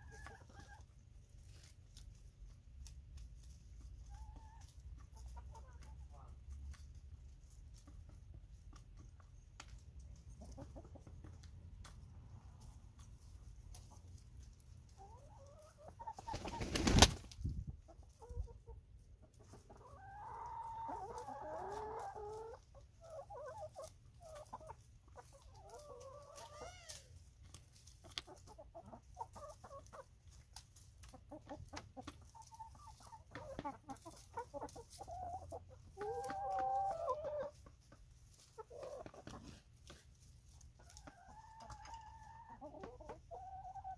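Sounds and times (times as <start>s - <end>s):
hens clucking: 0.0s - 43.9s.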